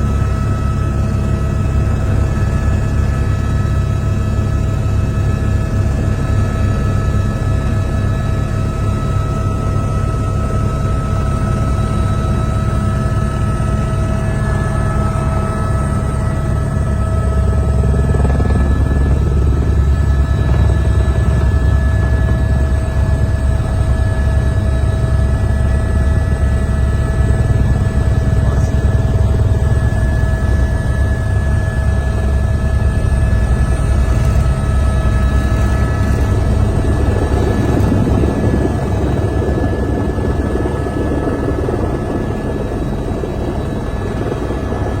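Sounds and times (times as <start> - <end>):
helicopter rotor beat: 0.0 - 45.0
turbine whine: 0.0 - 45.0.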